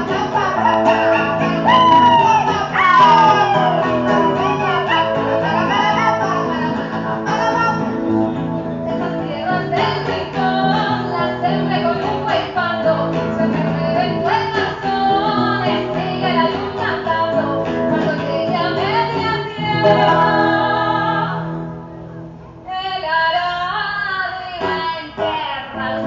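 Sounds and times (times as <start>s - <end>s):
woman singing: 0.0s - 7.9s, 8.9s - 21.7s, 22.7s - 26.0s
strummed acoustic guitar: 0.0s - 21.9s.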